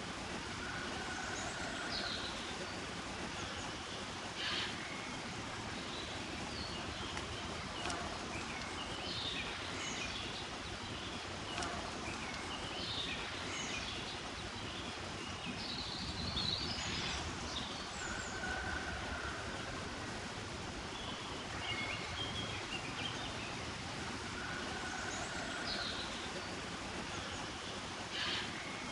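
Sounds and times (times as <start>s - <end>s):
outdoor background hiss: 0.0s - 28.9s
small birds chirping: 0.0s - 28.9s.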